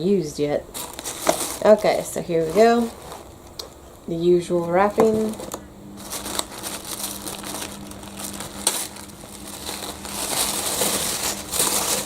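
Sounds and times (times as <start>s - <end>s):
crinkly wrapping crackling: 0.7s - 3.8s, 4.5s - 12.0s.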